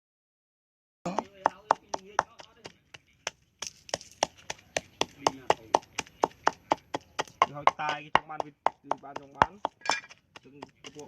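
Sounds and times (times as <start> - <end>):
knife chopping on wooden board: 1.1 - 11.0.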